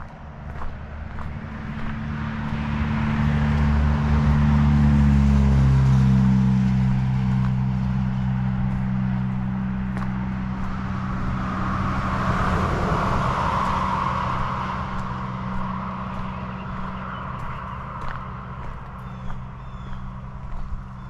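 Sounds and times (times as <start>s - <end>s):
pickup truck driving past: 0.0s - 20.8s.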